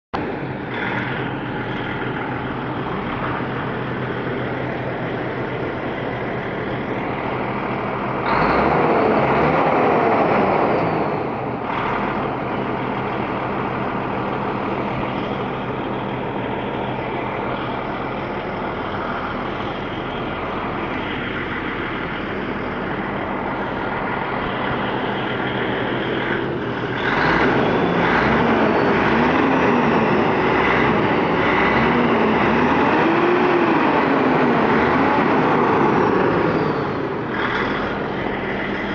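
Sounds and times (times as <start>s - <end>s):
diesel truck engine revving: 0.2s - 38.9s.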